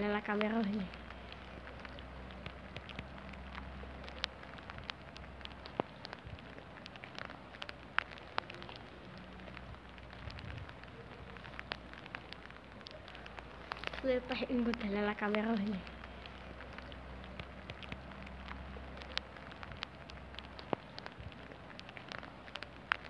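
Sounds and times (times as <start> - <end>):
rain falling: 0.0 - 23.0
sharp raindrop impacts: 0.0 - 23.0.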